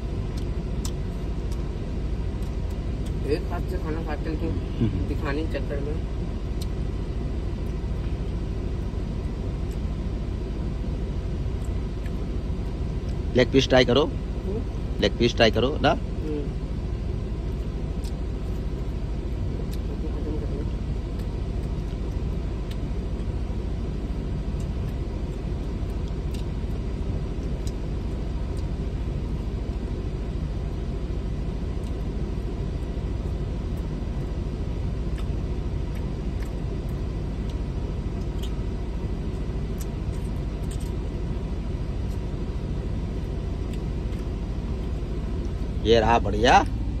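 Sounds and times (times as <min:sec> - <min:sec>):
car cabin rumble: 0:00.0 - 0:47.0
faint hum: 0:00.0 - 0:47.0.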